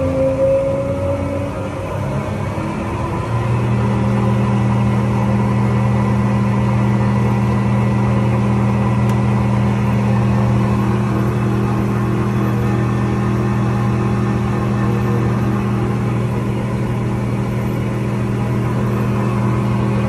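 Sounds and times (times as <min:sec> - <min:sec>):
bandsaw motor hum: 0:00.0 - 0:20.0.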